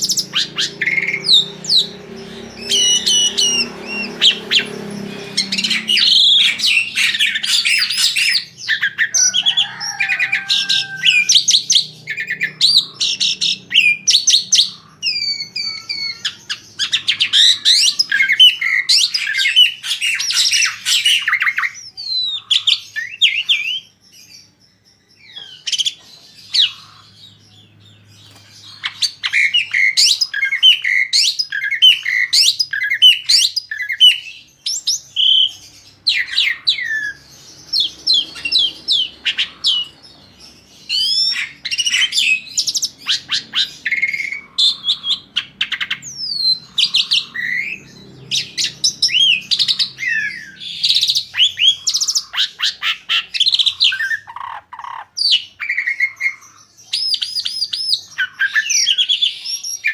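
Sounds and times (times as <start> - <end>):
starling singing: 0.0 - 59.9.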